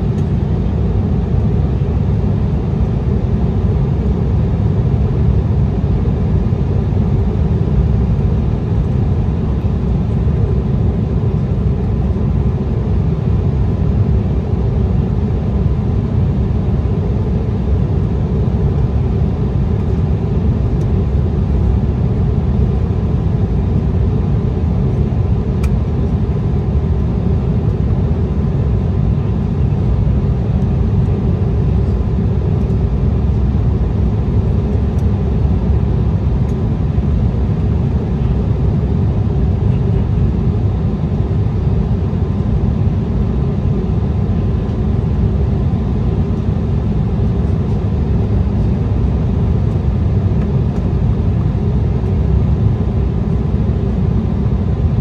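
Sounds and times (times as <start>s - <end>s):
jet cabin engine and airflow rumble: 0.0s - 55.0s.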